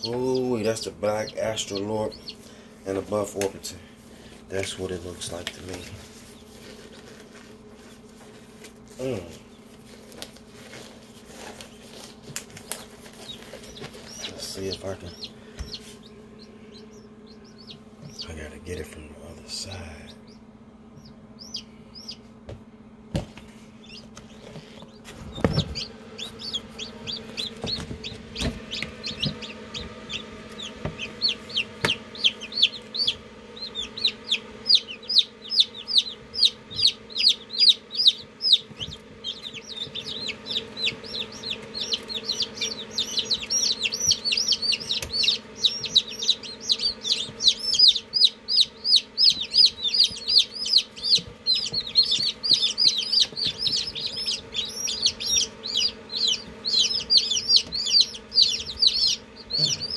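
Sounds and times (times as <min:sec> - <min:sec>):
chicks peeping: 0:00.0 - 0:59.9
steady low hum: 0:00.0 - 0:59.9.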